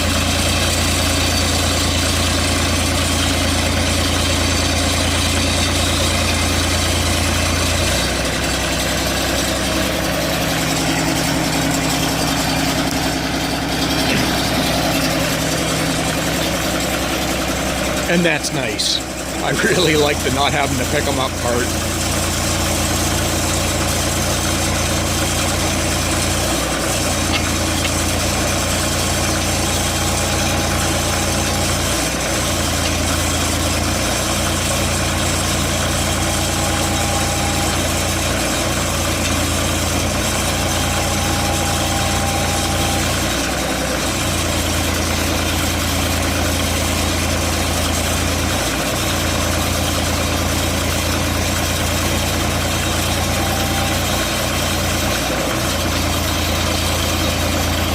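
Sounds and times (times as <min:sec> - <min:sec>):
sawmill engine humming: 0:00.0 - 0:57.9.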